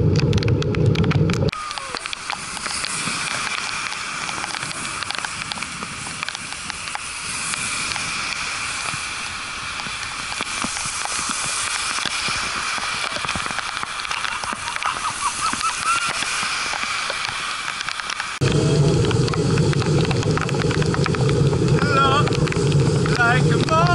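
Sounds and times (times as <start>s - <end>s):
bicycle tyres spraying water: 1.5s - 23.9s
heavy rain hissing: 1.5s - 23.9s.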